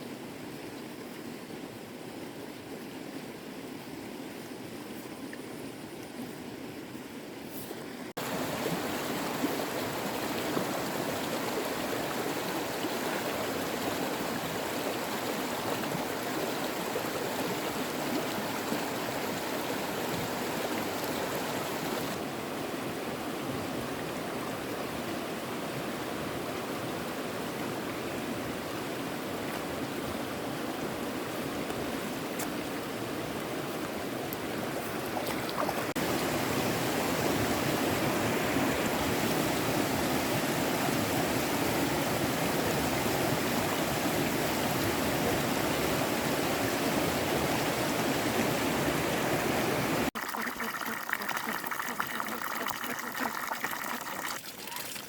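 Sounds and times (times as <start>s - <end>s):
flowing water rushing: 7.8s - 55.0s.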